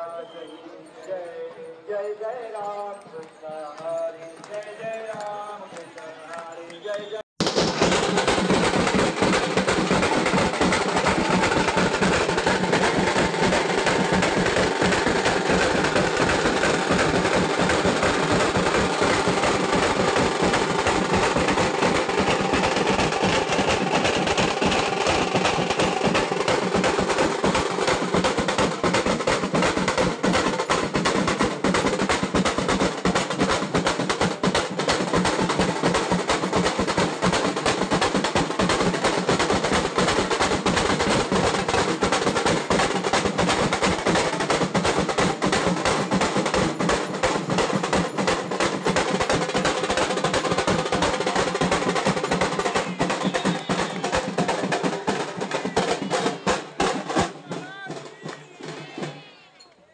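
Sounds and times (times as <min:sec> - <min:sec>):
fast rolling drumming: 0:07.4 - 0:59.3.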